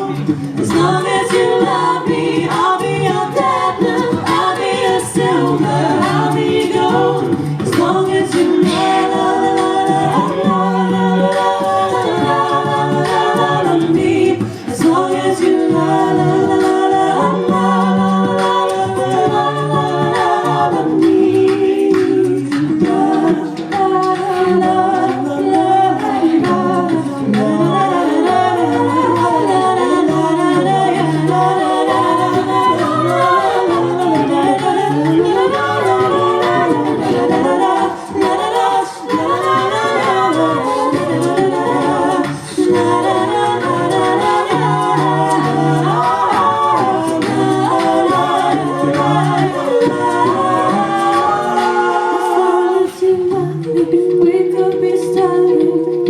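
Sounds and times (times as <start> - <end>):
a cappella group singing harmony: 0.0 - 56.0.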